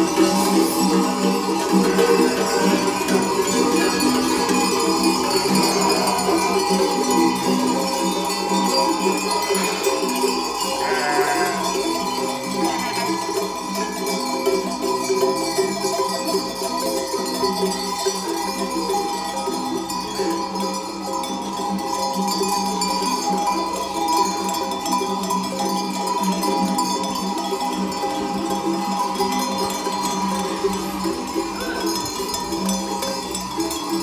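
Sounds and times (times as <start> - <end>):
sheep bells clanking: 0.0 - 34.0.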